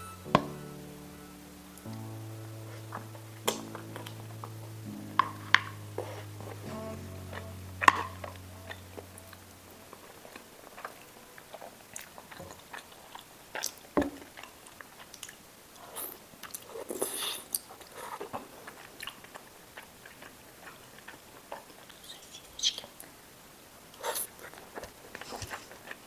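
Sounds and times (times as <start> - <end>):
person chewing: 0.3 - 22.9.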